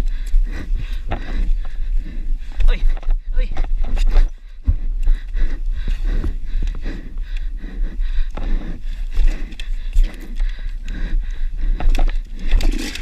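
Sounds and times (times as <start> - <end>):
heavy breathing: 0.0 - 13.0.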